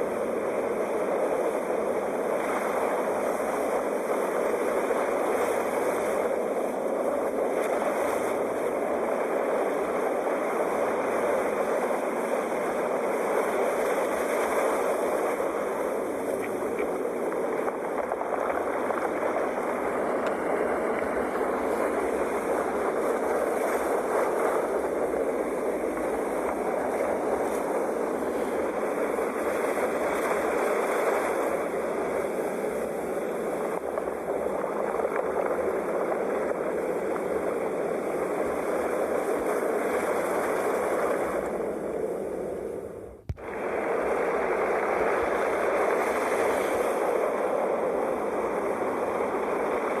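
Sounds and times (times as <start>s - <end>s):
sea surf washing ashore: 0.0s - 50.0s.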